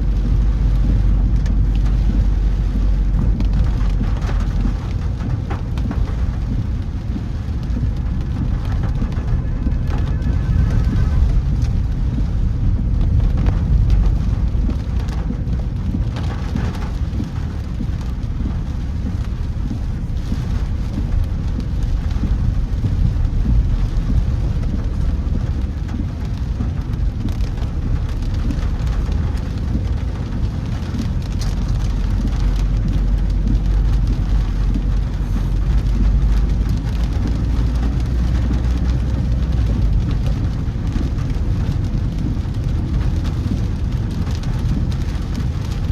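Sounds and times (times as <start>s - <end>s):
car rumbling on wet road: 0.0s - 45.9s
heavy rain on a car: 0.0s - 45.9s.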